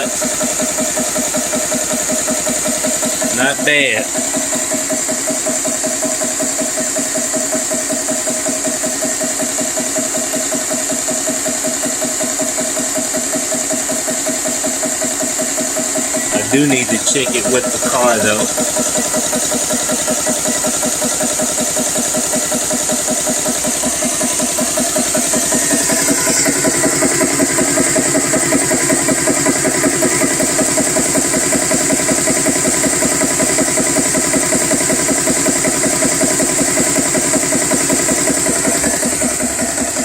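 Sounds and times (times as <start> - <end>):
compressor chugging: 0.0 - 40.0.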